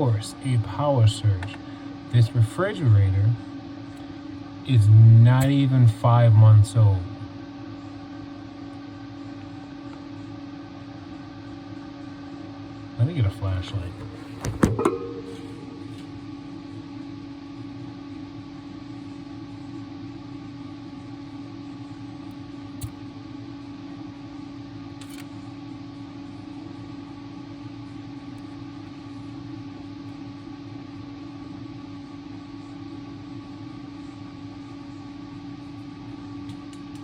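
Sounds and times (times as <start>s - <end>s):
refrigerator electrical hum: 0.0s - 37.0s.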